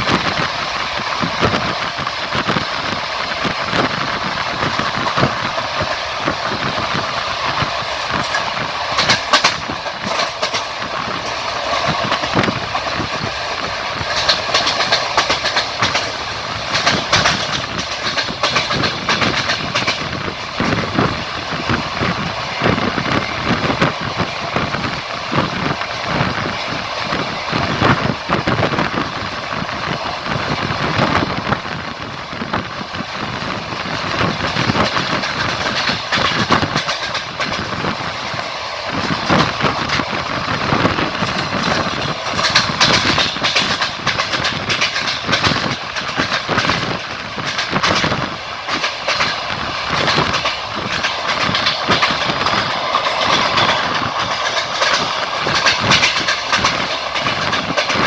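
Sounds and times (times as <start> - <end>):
train wheels rumbling on track: 0.0 - 58.0
wheels clacking over rail joints: 0.0 - 58.0.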